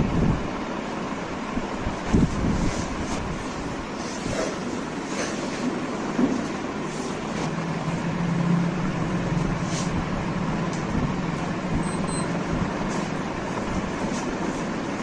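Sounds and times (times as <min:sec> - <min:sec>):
low even hum: 0:00.0 - 0:15.0.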